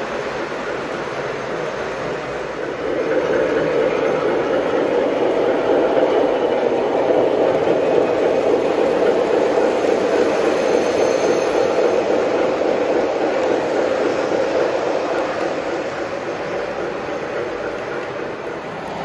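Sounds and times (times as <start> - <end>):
model train wheels rumbling on rail: 0.0 - 19.0.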